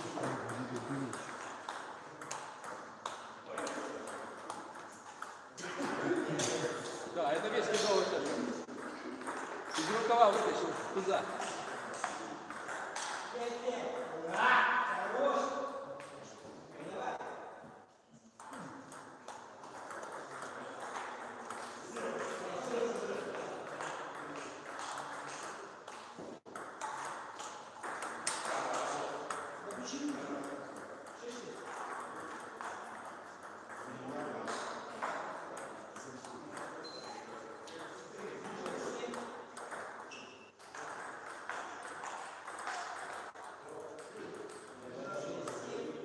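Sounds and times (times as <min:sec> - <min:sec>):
table tennis ball hits: 0:00.0 - 0:14.4, 0:18.4 - 0:36.9, 0:37.7 - 0:45.7.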